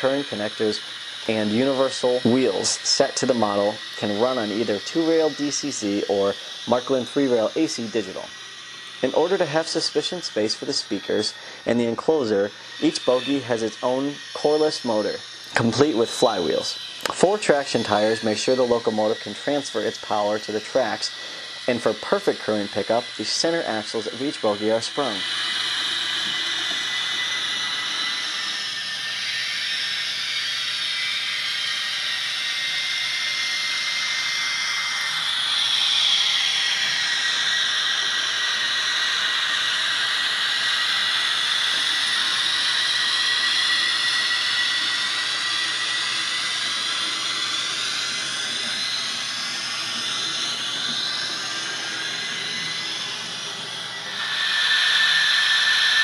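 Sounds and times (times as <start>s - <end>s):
model locomotive whine: 0.0s - 56.0s
steady hiss: 0.0s - 56.0s.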